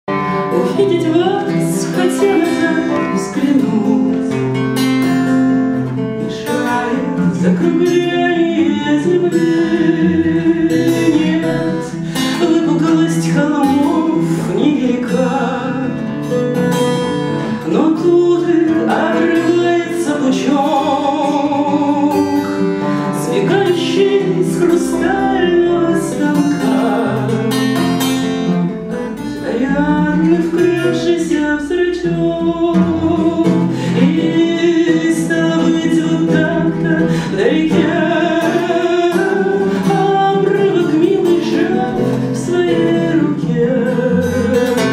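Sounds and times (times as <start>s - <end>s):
acoustic guitar strumming: 0.0s - 44.9s
woman singing: 0.1s - 4.7s, 6.2s - 16.3s, 17.6s - 27.7s, 29.2s - 44.9s.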